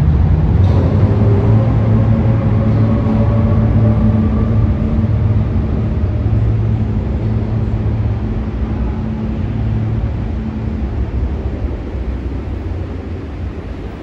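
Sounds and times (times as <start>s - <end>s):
steady hum: 0.0s - 14.0s
subway train rumble: 0.0s - 14.0s.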